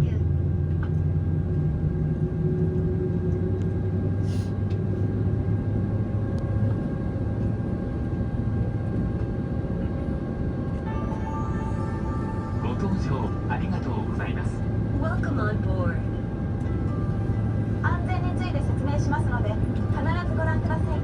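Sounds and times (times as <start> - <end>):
airliner cabin hum: 0.0 - 21.0.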